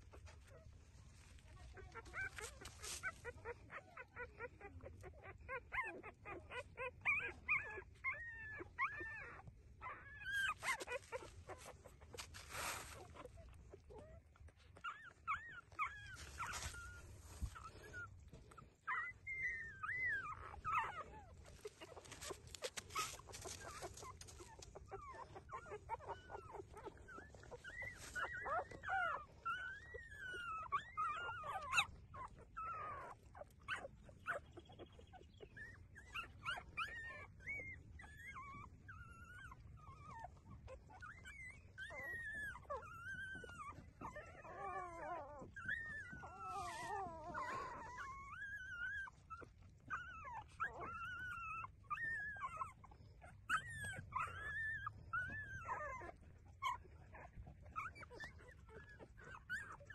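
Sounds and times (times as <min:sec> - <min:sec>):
puppies squeaking and whining: 0:00.0 - 0:59.9.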